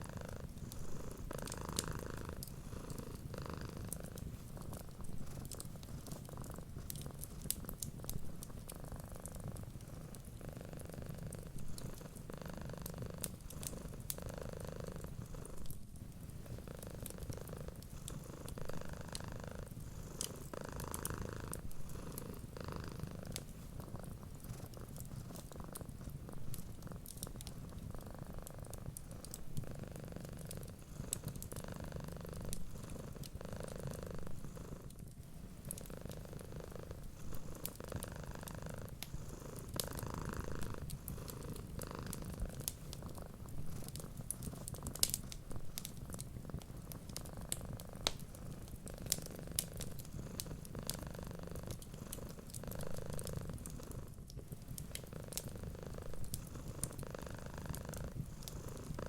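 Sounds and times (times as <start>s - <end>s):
wood fire crackling: 0.0s - 10.4s, 11.1s - 14.2s, 14.9s - 59.0s
cat purring: 0.0s - 59.0s.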